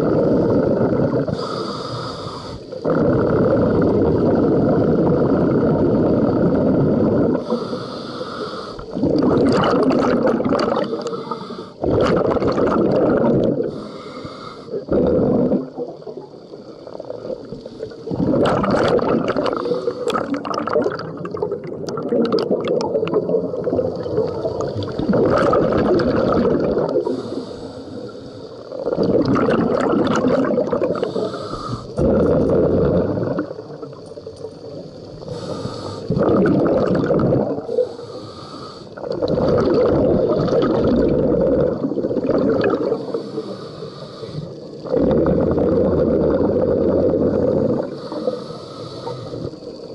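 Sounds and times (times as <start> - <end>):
scuba regulator inhalations: 0.0 - 21.4, 22.0 - 33.8, 34.9 - 49.9
scuba regulator bubbles exhaled: 0.0 - 49.9.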